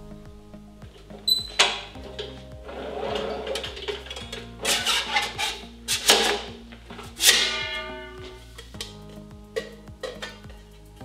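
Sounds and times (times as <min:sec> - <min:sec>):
sharp percussive hits: 0:00.0 - 0:10.6
low bass notes: 0:00.0 - 0:11.0.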